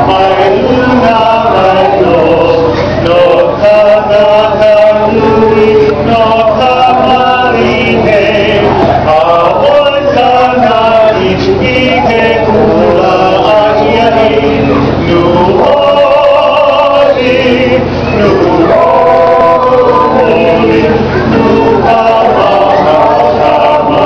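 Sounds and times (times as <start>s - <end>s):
group singing in chorus: 0.0s - 24.0s.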